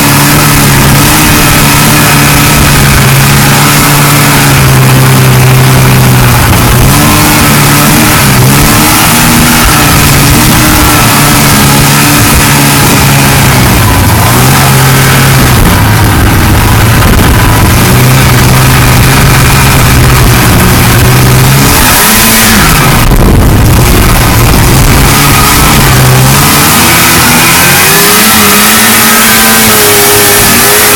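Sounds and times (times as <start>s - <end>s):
snowmobile two-stroke engine: 0.0s - 30.9s.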